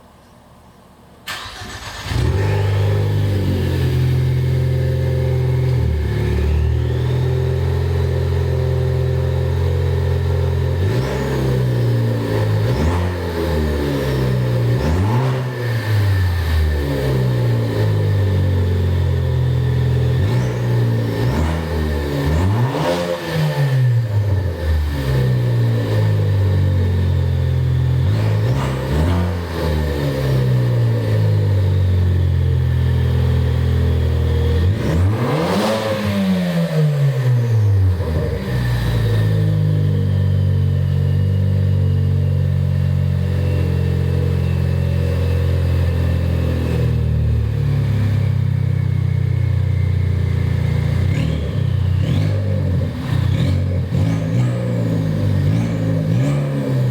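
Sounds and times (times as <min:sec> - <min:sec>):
car engine revving and idling: 0:01.3 - 0:56.9.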